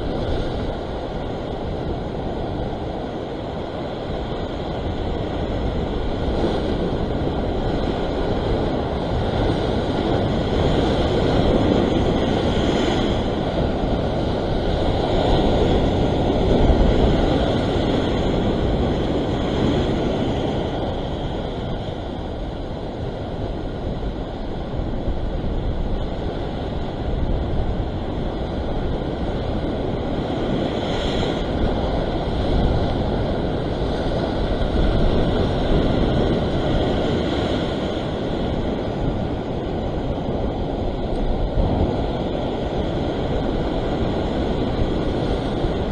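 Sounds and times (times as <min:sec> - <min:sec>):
surf breaking over rocks: 0:00.0 - 0:45.9
wind on microphone: 0:00.0 - 0:45.9.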